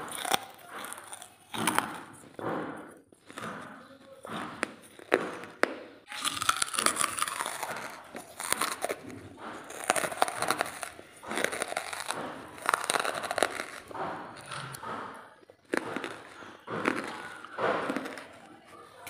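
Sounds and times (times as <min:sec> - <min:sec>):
crunching and chewing charcoal: 0:00.0 - 0:19.0.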